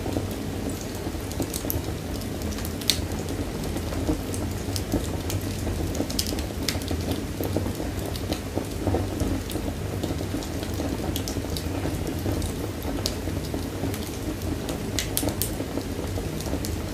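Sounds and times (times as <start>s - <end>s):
low roar of flames: 0.0s - 16.9s
wood fire crackling and popping: 0.0s - 16.9s.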